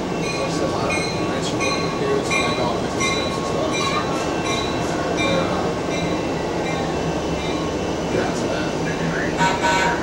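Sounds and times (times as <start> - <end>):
railway warning bell dinging: 0.0 - 10.0
trains rumbling: 0.0 - 10.0.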